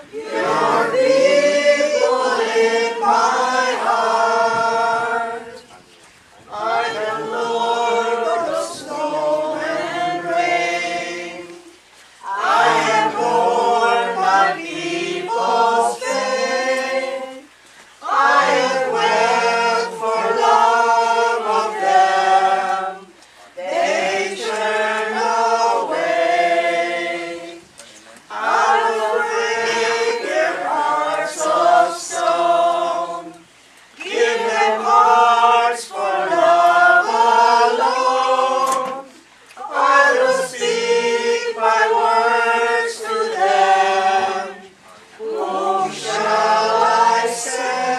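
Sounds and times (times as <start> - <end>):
congregation singing a hymn: 0.0 - 47.9.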